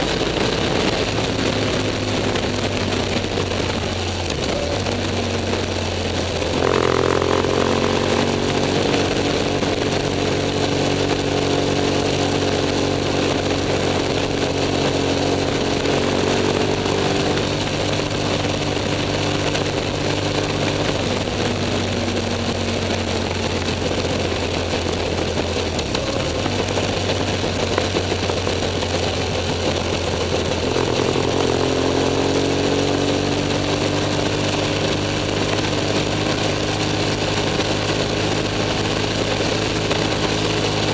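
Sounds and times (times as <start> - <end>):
motorcycle engine running: 0.0 - 40.9
wind noise: 0.0 - 40.9.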